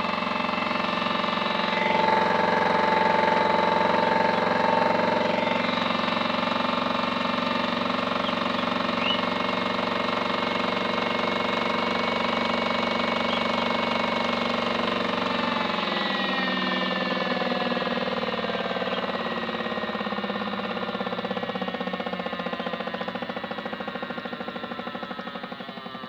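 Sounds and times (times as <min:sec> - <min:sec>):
small electric motor whine winding down: 0:00.0 - 0:26.0.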